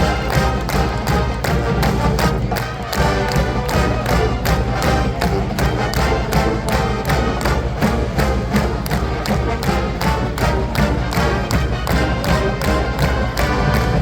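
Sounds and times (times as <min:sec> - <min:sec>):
marching band playing: 0:00.0 - 0:14.0
steady drum beat: 0:00.0 - 0:14.0.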